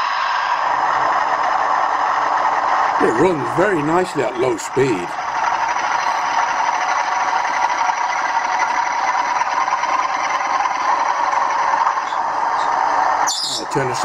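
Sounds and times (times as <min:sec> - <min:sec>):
tinny diesel engine sound: 0:00.0 - 0:14.0.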